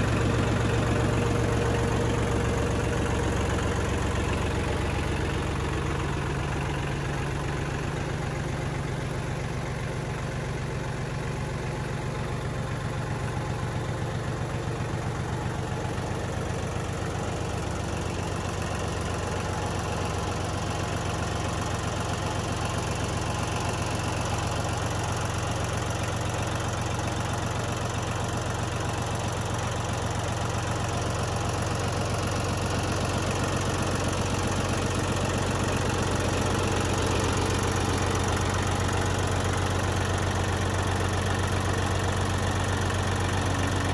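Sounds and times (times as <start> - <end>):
diesel tractor engine idling: 0.0 - 43.9.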